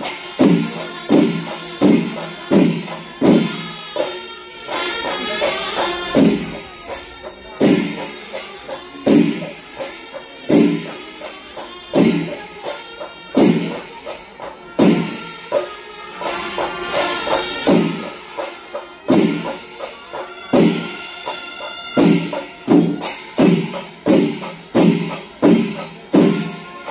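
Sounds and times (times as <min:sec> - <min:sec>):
hand cymbals: 0:00.0 - 0:26.9
temple drums: 0:00.0 - 0:26.9.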